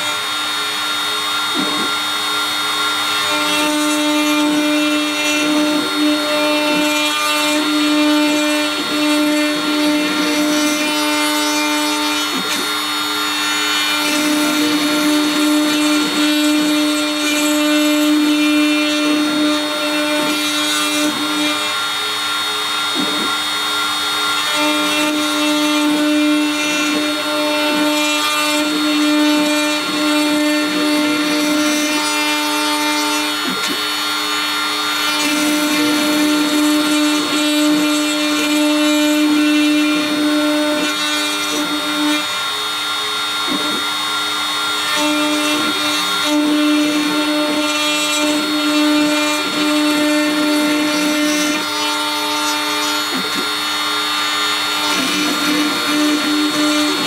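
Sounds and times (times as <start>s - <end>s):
router spindle whining: 0.0s - 57.0s.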